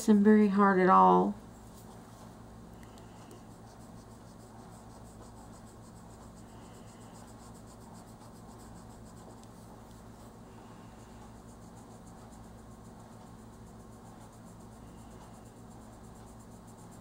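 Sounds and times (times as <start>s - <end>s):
pencil scratching on paper: 3.1s - 17.0s.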